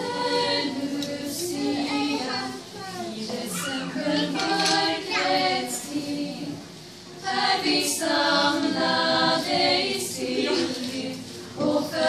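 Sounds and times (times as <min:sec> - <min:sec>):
choir of women singing: 0:00.0 - 0:12.0.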